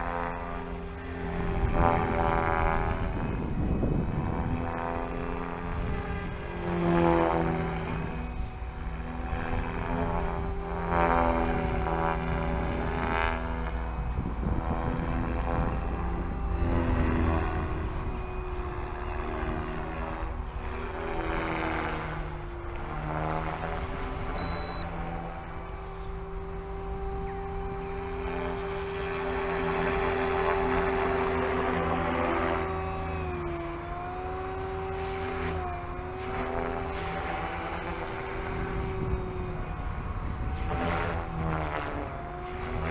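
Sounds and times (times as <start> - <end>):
rc helicopter motor and rotor whine: 0.0 - 42.9.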